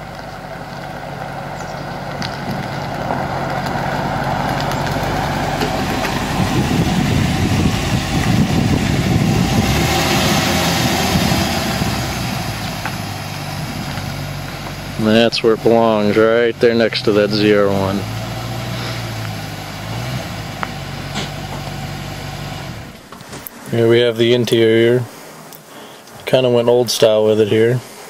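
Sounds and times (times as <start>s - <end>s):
car engine at low speed: 0.0s - 25.7s.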